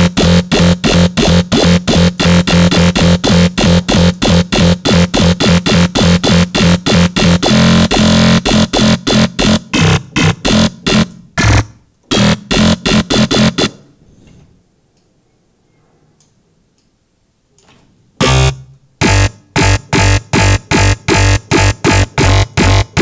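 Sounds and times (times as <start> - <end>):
distorted synth bass stabs: 0.0 - 13.8, 18.2 - 23.0.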